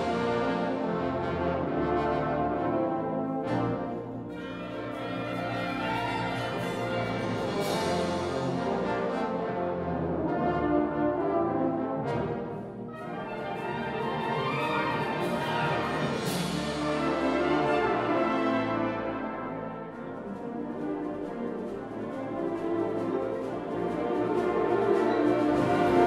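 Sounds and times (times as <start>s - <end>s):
brass-heavy wind orchestra chords: 0.0s - 26.0s.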